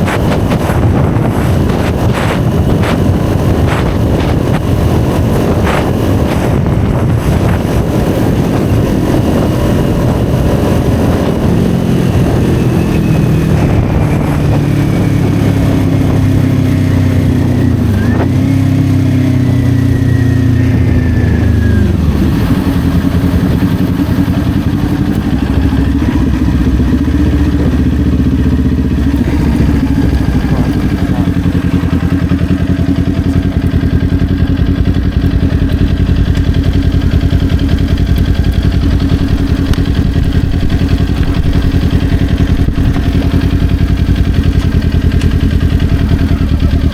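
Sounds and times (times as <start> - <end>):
motorcycle engine revving down: 0.0 - 46.9.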